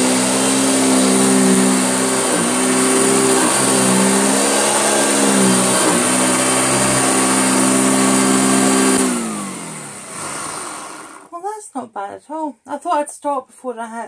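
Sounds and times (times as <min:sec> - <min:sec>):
vacuum cleaner motor whining: 0:00.0 - 0:11.3.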